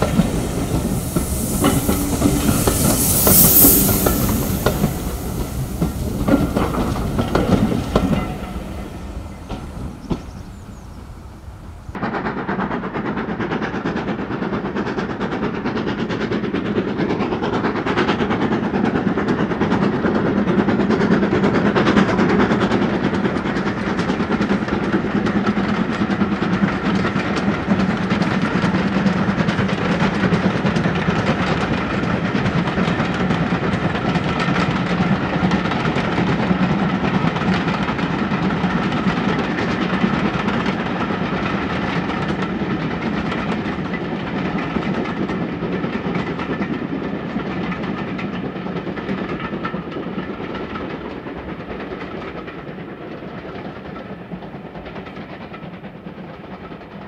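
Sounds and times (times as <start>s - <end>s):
steel wheels rolling on rail: 0.0s - 12.0s, 15.4s - 57.0s.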